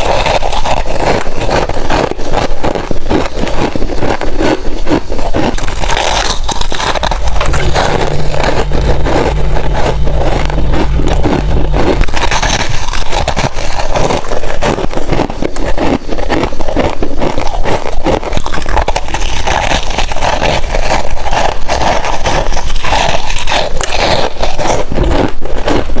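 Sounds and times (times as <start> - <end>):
biting and chewing frost: 0.0 - 26.0.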